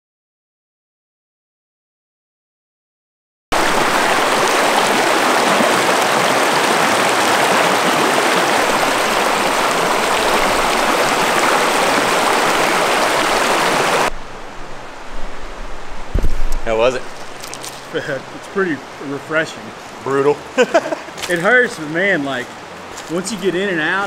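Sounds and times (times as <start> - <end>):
stream water rushing: 3.5 - 24.0.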